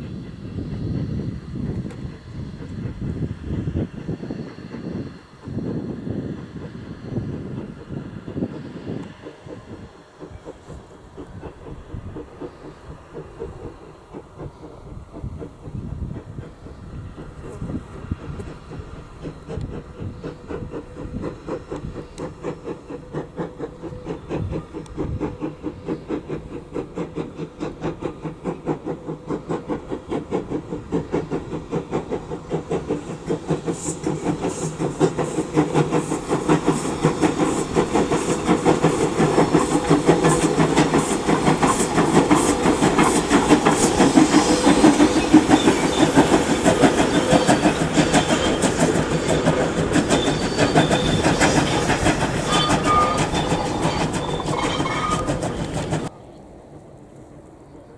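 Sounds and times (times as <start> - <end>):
steam locomotive chuffing: 0.0 - 56.2.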